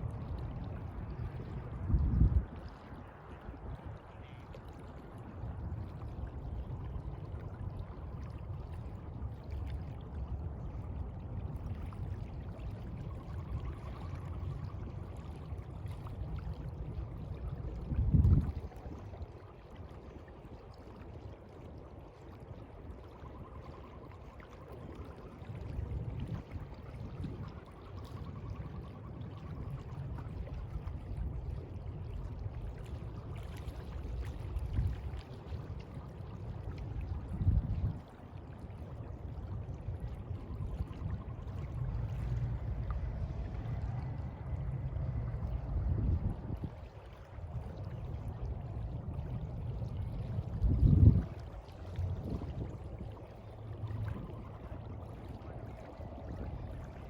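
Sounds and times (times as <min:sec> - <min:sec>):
sea water lapping: 0:00.2 - 0:57.0.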